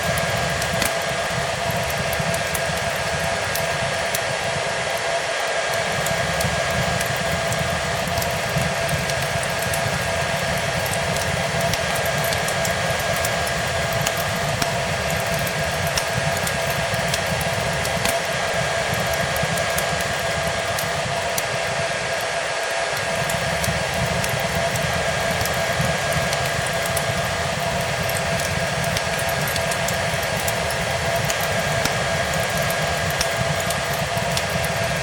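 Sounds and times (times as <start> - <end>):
fireplace crackling pops: 0.0 - 4.6, 5.7 - 22.3, 22.9 - 35.0
hair dryer running: 0.0 - 35.0.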